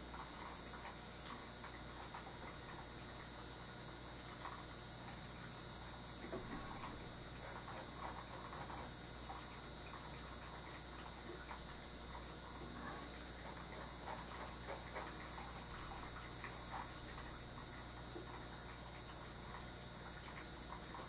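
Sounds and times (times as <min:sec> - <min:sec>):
low hum and hiss: 0:00.0 - 0:21.0.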